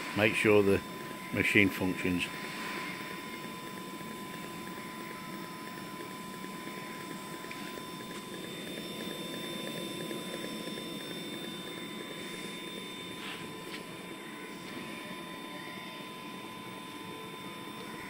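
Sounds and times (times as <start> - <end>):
welder whirring and hissing: 0.0 - 18.0.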